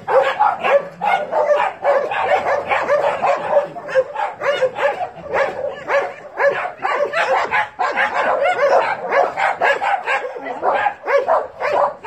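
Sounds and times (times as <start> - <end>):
dogs barking and yipping: 0.0 - 12.0.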